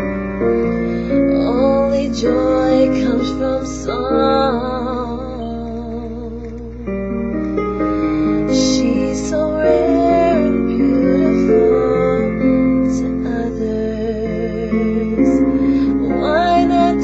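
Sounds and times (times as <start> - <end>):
piano accompaniment: 0.0 - 17.0
woman singing a slow ballad: 0.9 - 17.0.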